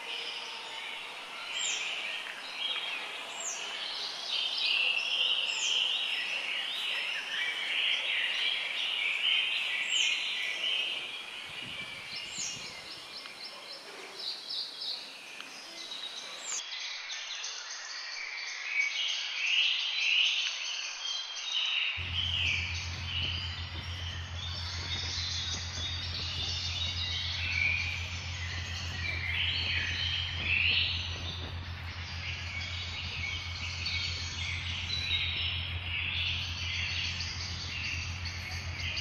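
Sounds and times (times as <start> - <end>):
birds chirping and chattering: 0.0 - 16.6, 22.0 - 39.0.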